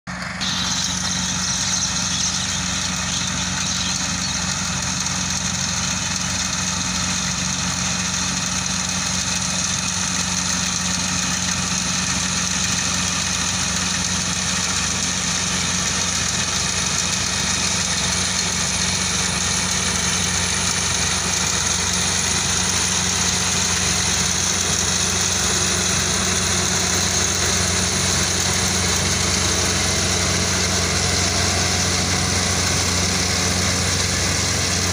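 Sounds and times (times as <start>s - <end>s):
combine harvester engine hum: 0.1s - 34.9s.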